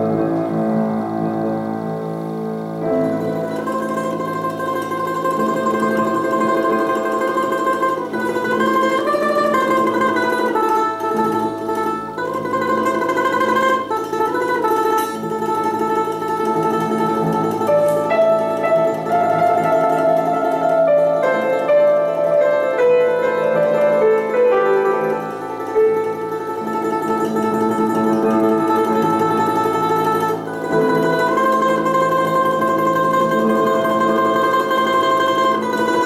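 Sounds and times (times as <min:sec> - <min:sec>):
domra melody: 0:00.0 - 0:36.0
piano accompaniment: 0:00.0 - 0:36.0.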